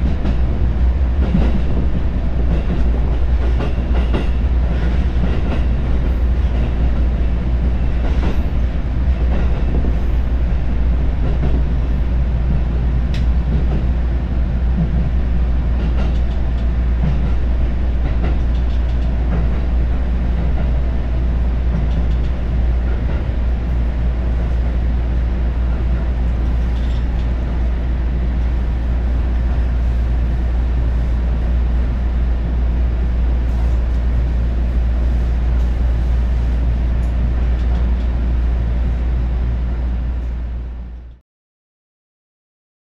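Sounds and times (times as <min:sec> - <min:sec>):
train rumble from inside: 0:00.0 - 0:41.2.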